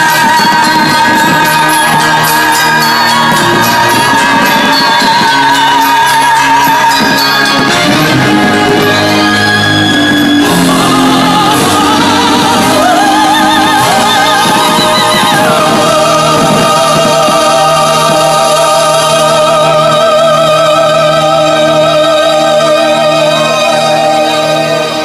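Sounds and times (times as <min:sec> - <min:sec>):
person singing with vibrato: 0:00.0 - 0:25.0
sustained instrumental chords: 0:00.0 - 0:25.0.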